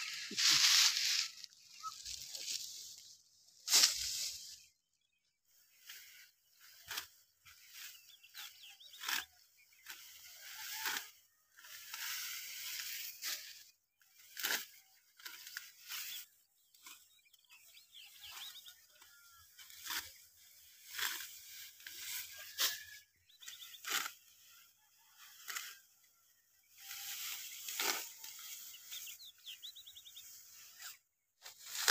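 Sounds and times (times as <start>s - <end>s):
rustle of cut stalks: 0.0s - 4.8s, 5.4s - 31.9s
sickle cutting dry wheat stalks: 0.0s - 31.9s.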